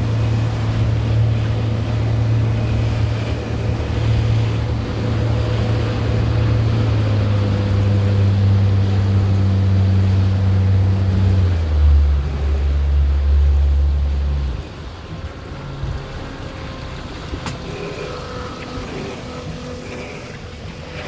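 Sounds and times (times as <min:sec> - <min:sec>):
motorboat engine humming: 0:00.0 - 0:21.0
water rushing: 0:00.0 - 0:21.0.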